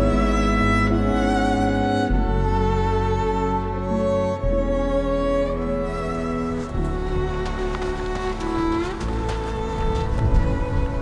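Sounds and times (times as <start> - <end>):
music of long held notes: 0.0 - 11.0.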